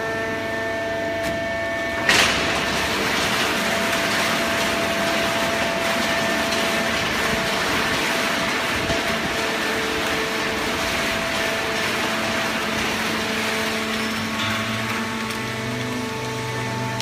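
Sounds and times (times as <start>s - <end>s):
baling press whirring: 0.0s - 17.0s
deep machine hum: 0.0s - 17.0s.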